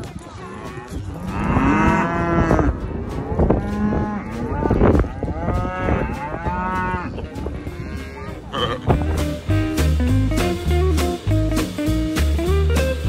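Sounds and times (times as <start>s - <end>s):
calves bawling: 0.0s - 10.8s.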